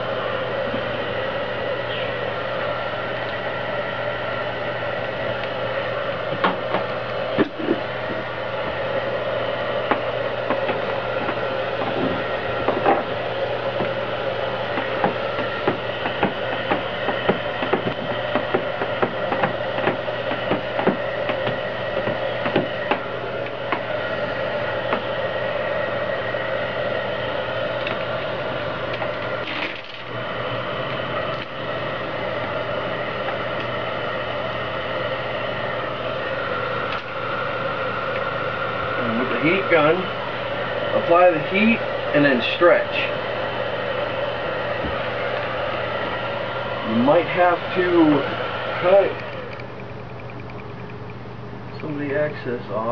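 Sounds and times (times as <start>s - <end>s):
heat gun whirring: 0.0s - 52.4s.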